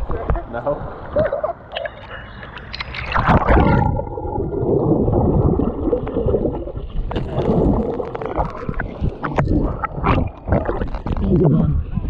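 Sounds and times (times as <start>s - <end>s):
crackles and clicks: 0.0s - 12.0s
underwater rushing and gurgling: 0.0s - 12.0s.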